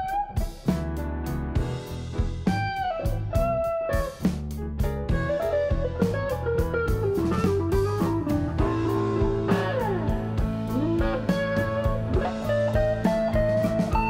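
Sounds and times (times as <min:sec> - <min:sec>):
bass line: 0:00.0 - 0:14.0
drums: 0:00.0 - 0:14.0
guitar melody with sliding notes: 0:00.0 - 0:14.0.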